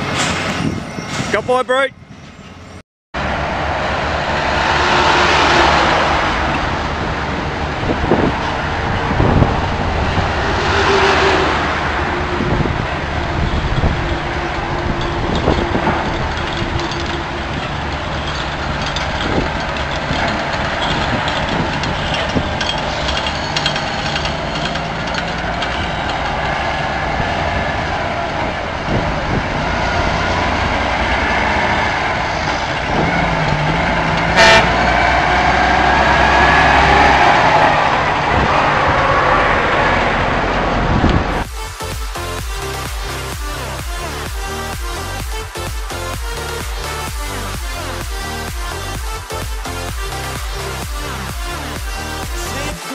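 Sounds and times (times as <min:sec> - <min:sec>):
heavy vehicle engine running: 0:03.2 - 0:52.9.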